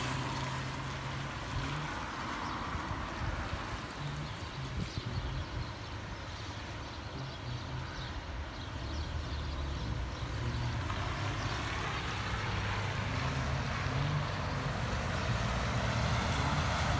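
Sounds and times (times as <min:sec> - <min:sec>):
traffic rumble: 0:00.0 - 0:16.9.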